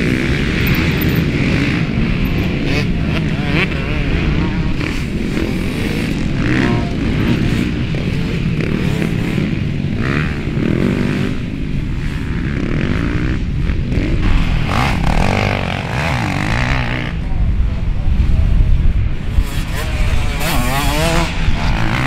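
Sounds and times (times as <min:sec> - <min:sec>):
dirt bikes revving: 0:00.0 - 0:22.0.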